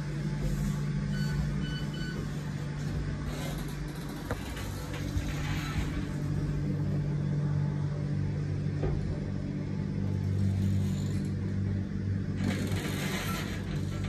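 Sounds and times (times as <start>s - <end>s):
elevator hum and rumble: 0.0s - 14.0s.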